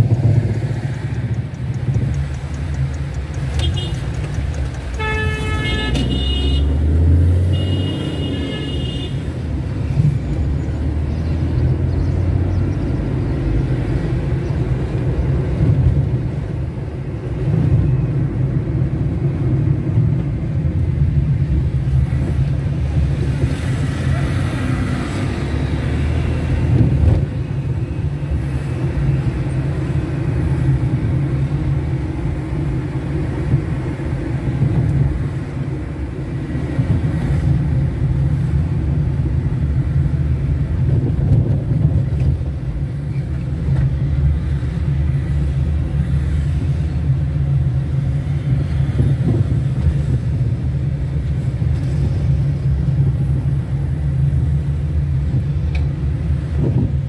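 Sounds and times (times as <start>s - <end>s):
car engine and tyres rumble: 0.0s - 57.0s.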